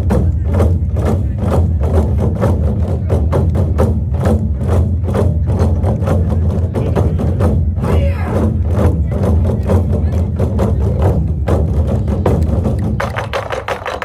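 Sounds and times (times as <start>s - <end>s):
drums beaten in fast rhythm: 0.0s - 14.0s.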